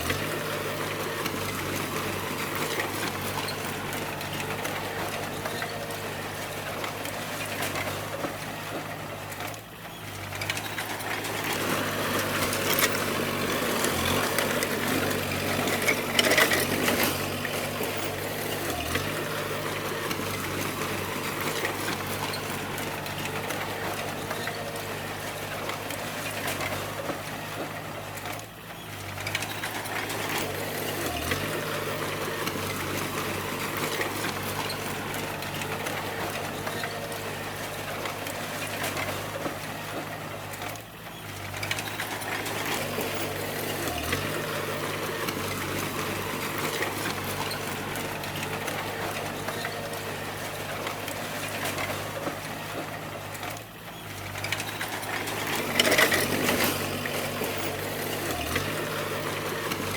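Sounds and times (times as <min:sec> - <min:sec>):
bulldozer diesel engine: 0:00.0 - 0:59.9
rattling track clatter: 0:00.0 - 0:59.9.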